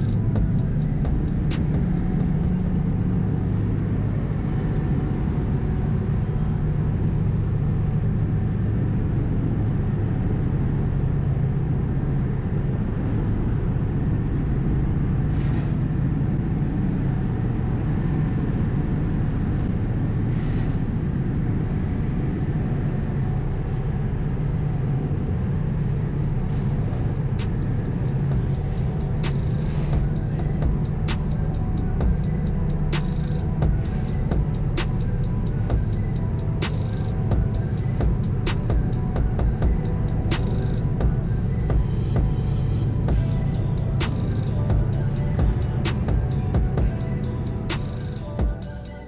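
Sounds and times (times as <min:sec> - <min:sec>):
ferry engine drone: 0:00.0 - 0:49.0.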